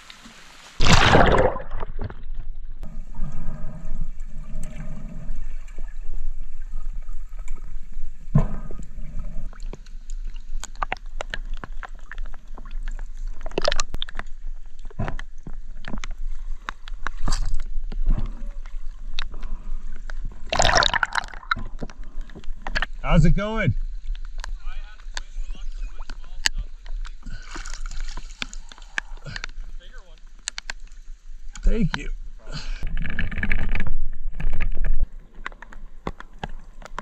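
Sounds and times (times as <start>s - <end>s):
water sloshing and gurgling: 0.0s - 31.6s, 32.2s - 37.0s.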